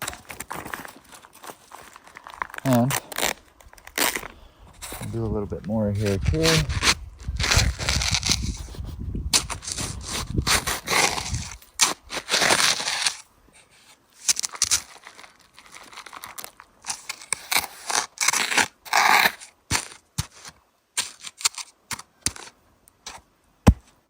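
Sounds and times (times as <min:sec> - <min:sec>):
hands crunching and scraping: 0:00.0 - 0:24.0.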